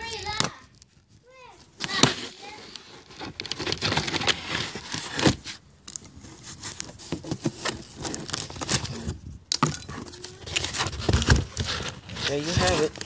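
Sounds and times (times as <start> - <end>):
cardboard tearing and rustling: 1.7 - 13.0.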